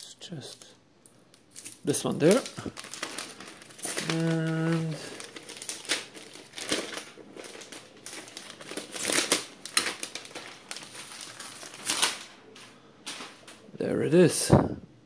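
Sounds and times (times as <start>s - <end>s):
plastic wrapping crinkling: 0.4s - 13.7s.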